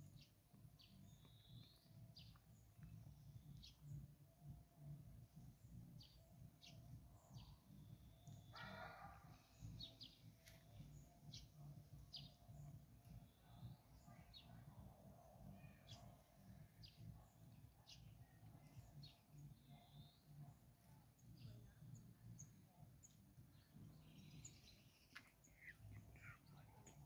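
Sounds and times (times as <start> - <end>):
songbird chirps: 0.0 - 27.0.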